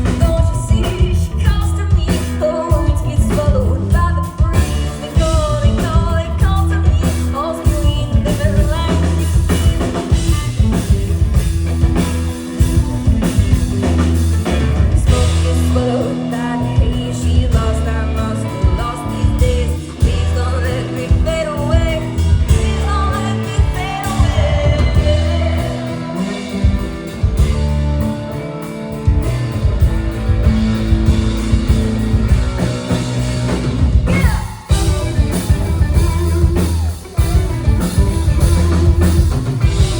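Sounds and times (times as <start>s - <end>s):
bass guitar: 0.0s - 39.9s
drum kit beat: 0.0s - 39.9s
guitar: 0.0s - 39.9s
wavering lead melody: 4.6s - 39.9s.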